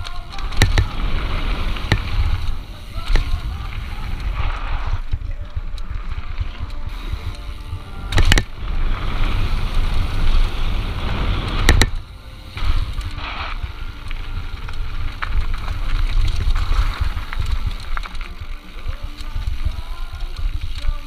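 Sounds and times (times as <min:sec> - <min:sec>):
bike rattling over dirt: 0:00.0 - 0:21.0.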